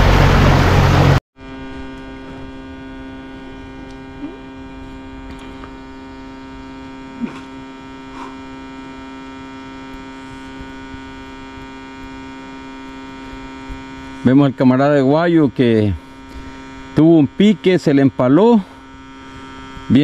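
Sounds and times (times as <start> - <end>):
steady hum with overtones: 0.0 - 20.0.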